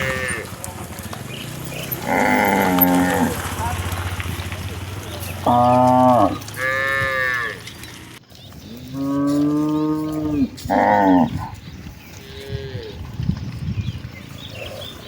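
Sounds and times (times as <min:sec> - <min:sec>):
cows mooing: 0:00.0 - 0:13.2.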